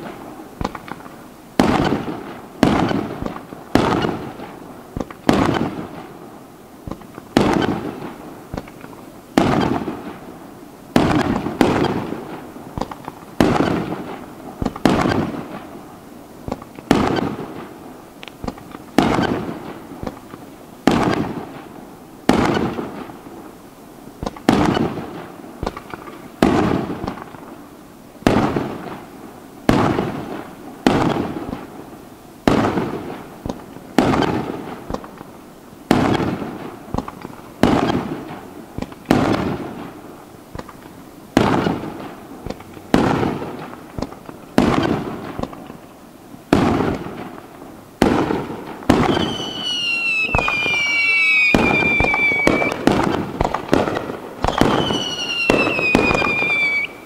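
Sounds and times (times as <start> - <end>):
firework shells bursting: 0.0 - 6.2, 6.8 - 23.3, 24.2 - 27.6, 28.2 - 57.0.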